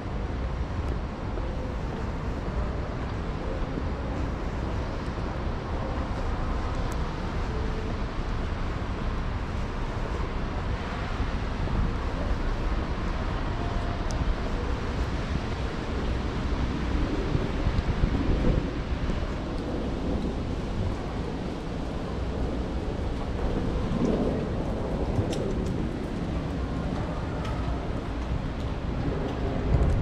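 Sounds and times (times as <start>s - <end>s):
city traffic rushing: 0.0s - 30.0s
wind buffeting microphone: 0.0s - 30.0s.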